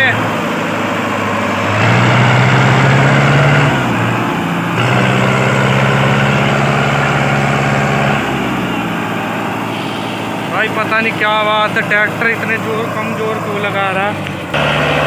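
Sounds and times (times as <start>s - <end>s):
tractor diesel engine labouring: 0.0s - 15.0s.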